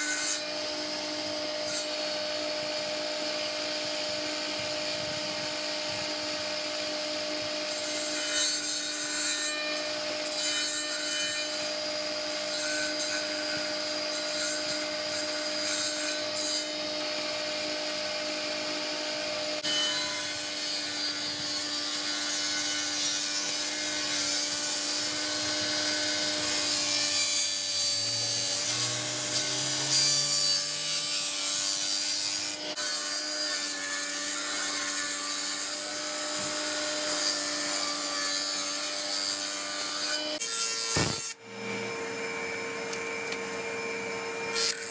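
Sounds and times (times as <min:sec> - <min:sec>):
table saw ripping wood: 0:00.0 - 0:42.2, 0:42.8 - 0:44.9.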